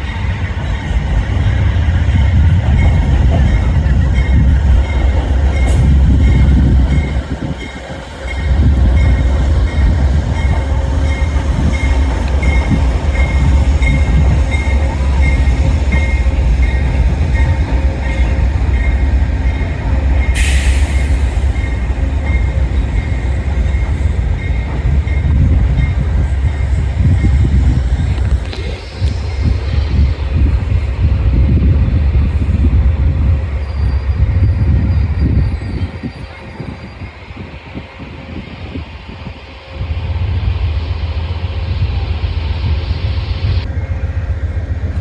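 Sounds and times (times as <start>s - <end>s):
train rumbling over bridge: 0.0s - 45.0s.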